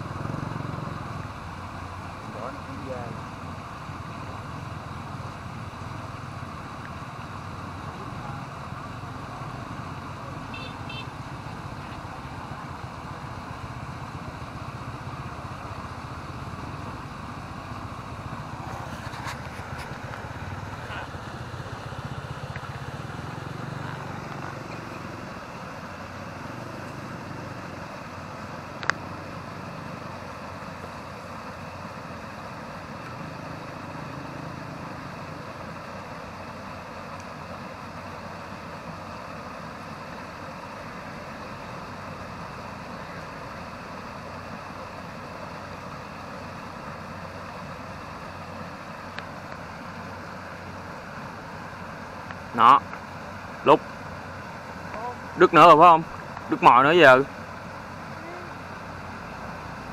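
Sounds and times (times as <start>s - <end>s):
engine hum: 0.0s - 59.9s.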